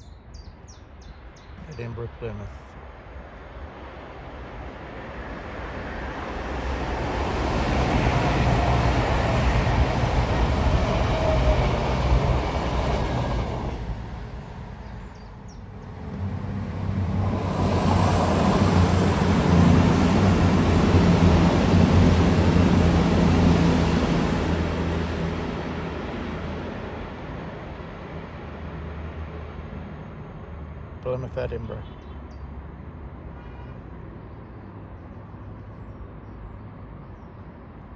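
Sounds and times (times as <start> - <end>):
diesel trains passing: 0.9 - 31.8.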